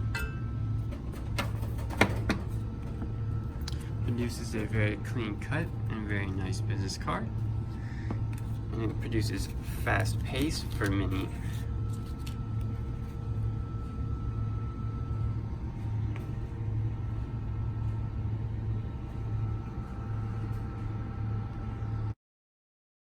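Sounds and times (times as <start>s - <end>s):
card slitter motor humming: 0.0s - 22.1s.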